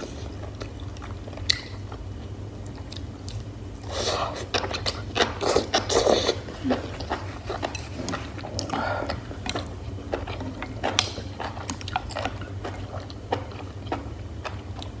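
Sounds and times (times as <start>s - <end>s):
steady low hum: 0.0s - 15.0s
chewing with wet mouth clicks: 0.3s - 2.0s, 2.6s - 15.0s.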